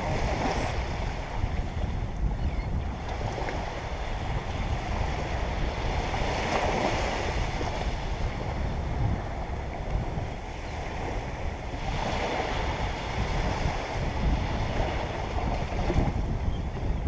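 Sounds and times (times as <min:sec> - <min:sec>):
ocean surf breaking on beach: 0:00.0 - 0:16.5
wind buffeting microphone: 0:00.0 - 0:17.0.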